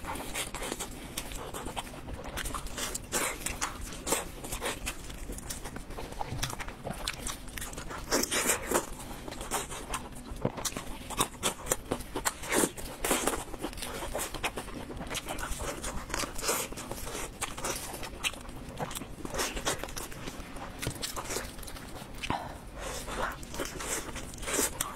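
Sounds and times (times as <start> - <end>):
chewing: 0.0 - 24.9
crispy food crunching: 0.0 - 24.9.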